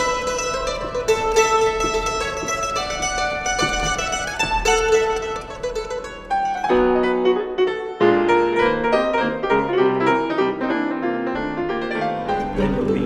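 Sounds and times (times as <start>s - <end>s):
plucked strings: 0.0s - 10.9s, 12.0s - 13.0s
piano chords: 0.0s - 13.0s.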